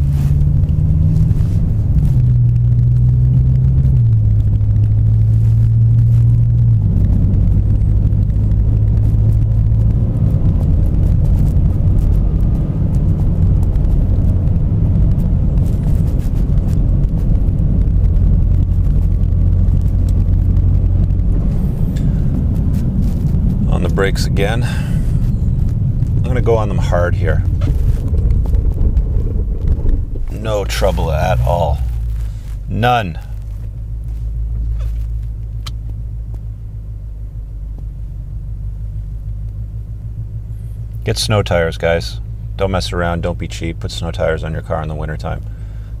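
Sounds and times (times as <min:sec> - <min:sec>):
car engine interior drone: 0:00.0 - 0:46.0
road rumble: 0:00.0 - 0:46.0.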